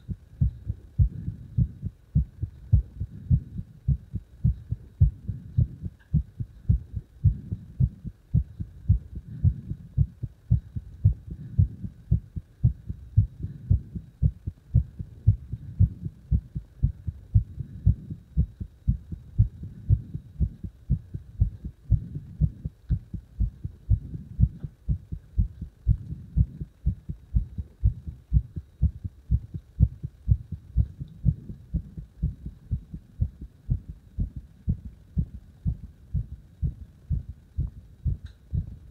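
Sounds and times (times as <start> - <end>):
heart beating: 0.0 - 38.9.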